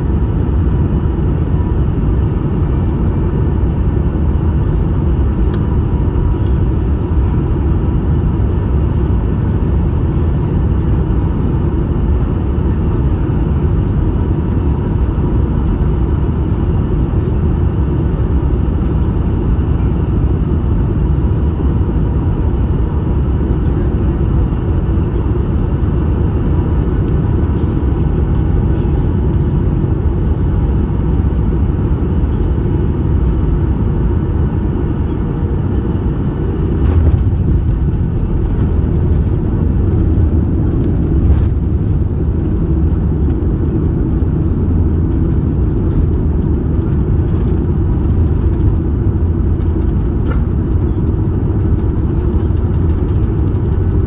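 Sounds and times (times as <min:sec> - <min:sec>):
aircraft cabin rumble: 0:00.0 - 0:54.0.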